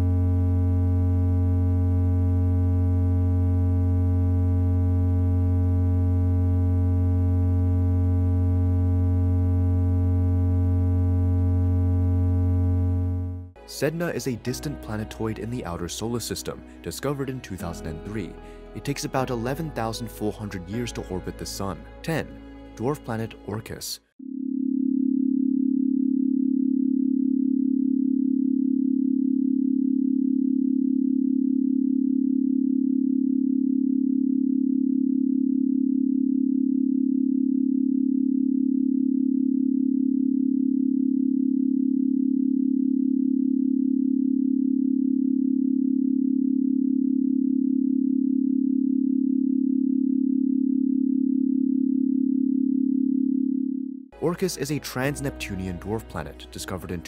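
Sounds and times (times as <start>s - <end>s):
steady low electronic tone: 0.0s - 18.9s, 24.2s - 57.0s.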